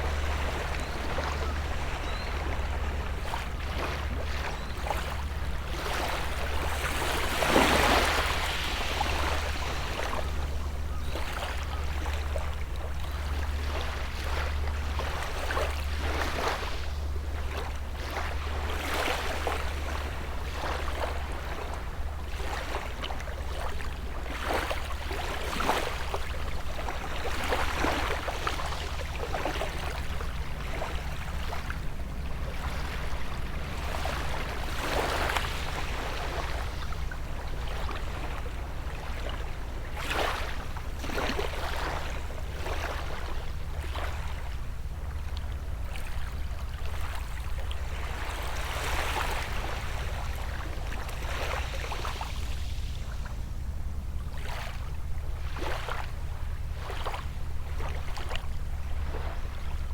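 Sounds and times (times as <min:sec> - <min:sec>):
small waves lapping on shore: 0:00.0 - 0:59.9
steady low hum: 0:00.0 - 0:59.9.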